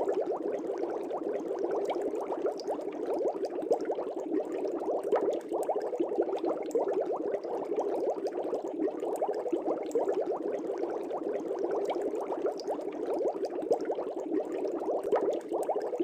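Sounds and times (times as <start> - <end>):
air bubbling in an aquarium: 0.0 - 16.0.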